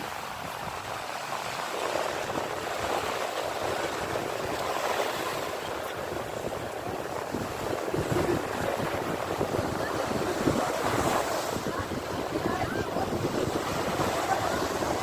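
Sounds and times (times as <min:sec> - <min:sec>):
surf rushing: 0:00.0 - 0:15.0.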